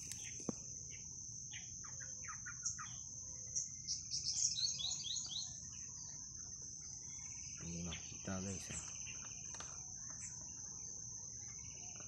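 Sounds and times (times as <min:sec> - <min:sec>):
high-pitched insect drone: 0:00.0 - 0:12.0
small birds chirping: 0:00.0 - 0:12.0.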